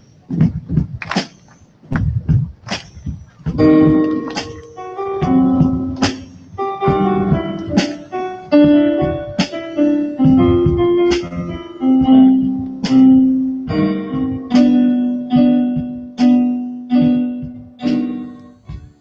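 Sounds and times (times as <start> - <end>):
drum hits: 0.3 - 16.4.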